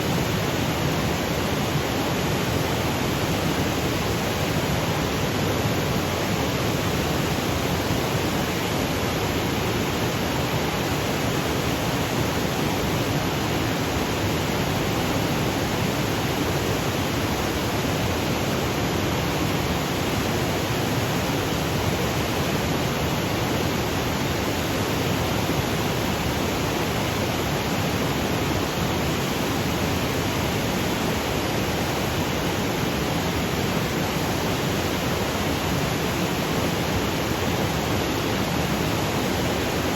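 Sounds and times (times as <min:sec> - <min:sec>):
waterfall rushing over boulders: 0:00.0 - 0:39.9.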